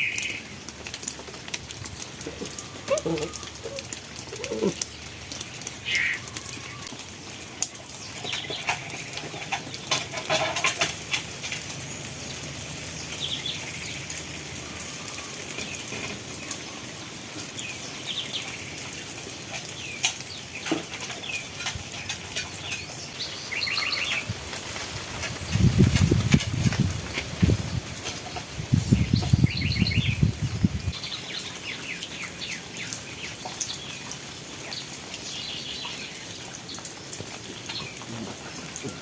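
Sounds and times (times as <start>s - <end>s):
birds chirping: 2.1s - 10.6s, 11.5s - 24.4s, 27.7s - 39.0s.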